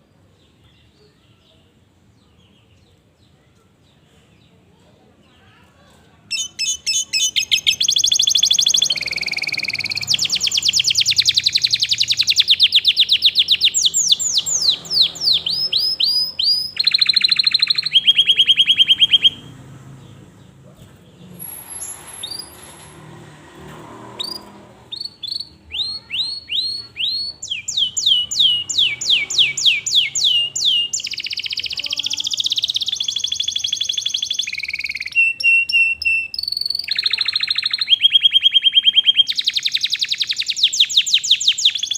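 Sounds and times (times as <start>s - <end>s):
canary singing trills: 6.3s - 23.0s, 24.1s - 41.9s.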